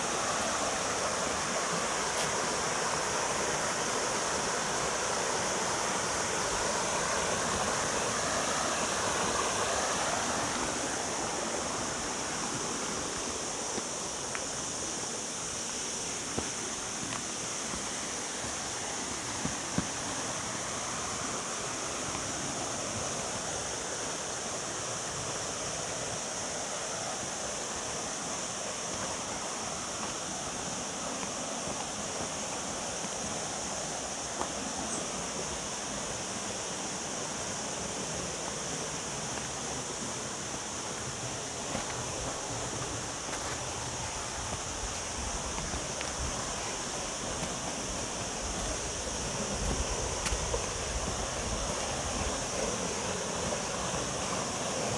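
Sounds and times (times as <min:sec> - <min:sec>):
waterfall rushing water: 0:00.0 - 0:54.9.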